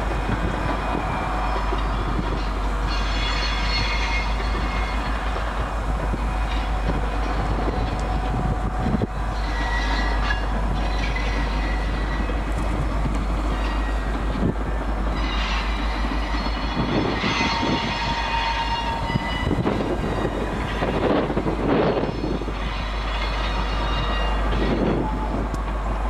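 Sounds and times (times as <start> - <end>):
train wheels rumbling: 0.0 - 26.0
high-pitched wheel squeals: 0.8 - 12.6, 15.1 - 25.4.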